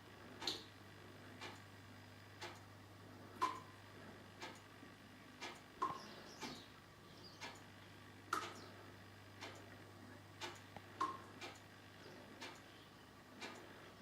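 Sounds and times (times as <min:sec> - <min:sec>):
faint steady ticking: 0:00.0 - 0:14.0.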